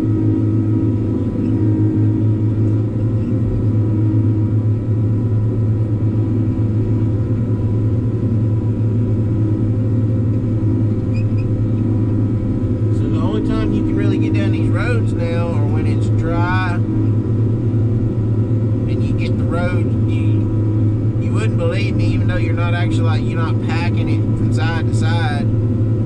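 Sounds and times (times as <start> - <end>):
diesel engine droning: 0.0 - 26.0
faint engine whine: 0.0 - 26.0.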